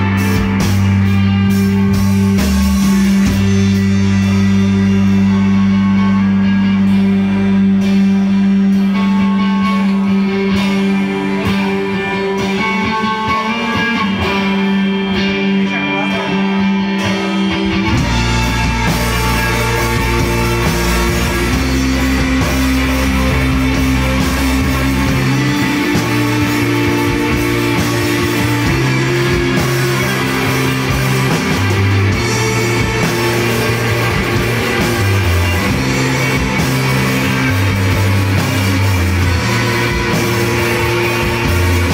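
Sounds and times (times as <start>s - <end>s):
live rock band playing: 0.0s - 41.9s.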